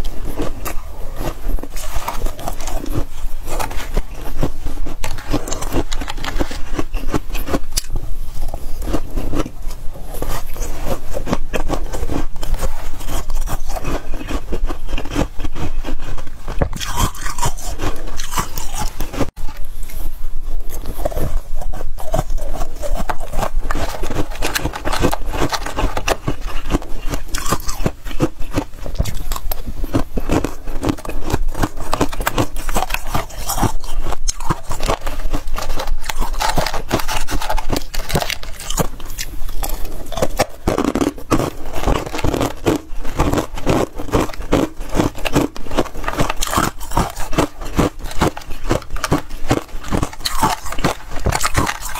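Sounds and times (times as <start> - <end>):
frost crunching being chewed: 0.0 - 51.9.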